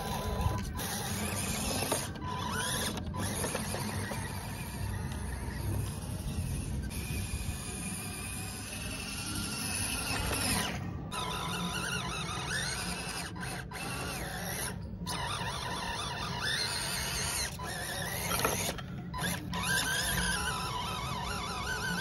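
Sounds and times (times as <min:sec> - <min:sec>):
toy car motor whining: 0:00.0 - 0:22.0.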